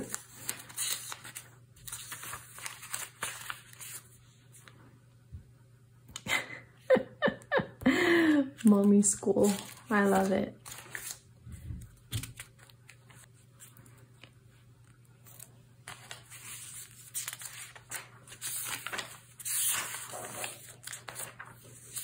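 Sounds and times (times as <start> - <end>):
paper pages rustling: 0.0 - 4.8, 8.6 - 22.0.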